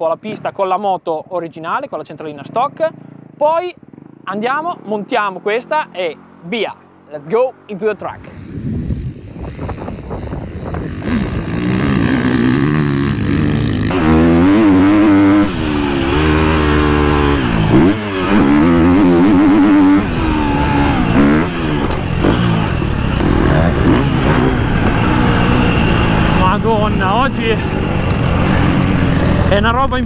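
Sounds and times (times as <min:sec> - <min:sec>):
motocross bike engine revving: 0:02.3 - 0:30.0.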